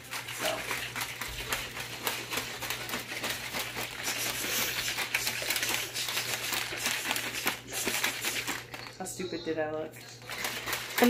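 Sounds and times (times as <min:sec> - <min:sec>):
liquid sloshing: 0:00.0 - 0:09.1
shaker bottle rattling: 0:00.0 - 0:11.0.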